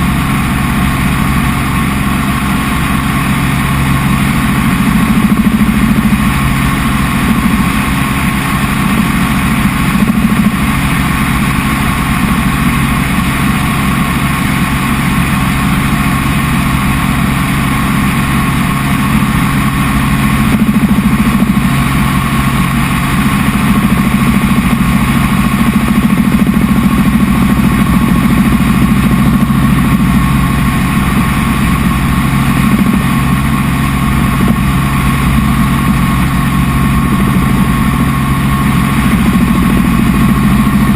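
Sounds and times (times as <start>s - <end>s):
helicopter engine and rotor drone: 0.0s - 40.9s
helicopter whine: 0.0s - 40.9s.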